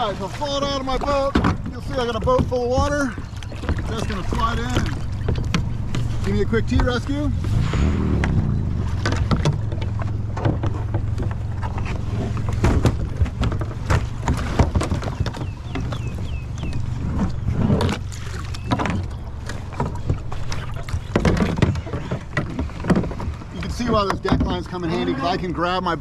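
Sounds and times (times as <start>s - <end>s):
hollow knocks of hulls and paddles: 0.0s - 26.0s
steady low rumble: 0.0s - 26.0s
water splashing around kayaks: 0.0s - 26.0s.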